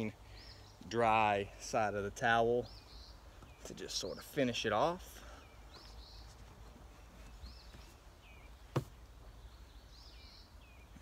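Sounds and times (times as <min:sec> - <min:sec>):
birds chirping: 0:00.0 - 0:11.0
faint outdoor hum: 0:00.0 - 0:11.0.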